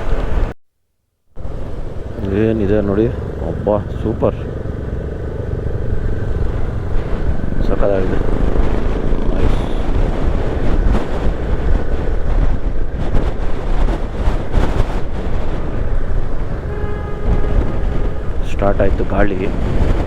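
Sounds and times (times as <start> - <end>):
wind buffeting microphone: 1.4 - 20.0.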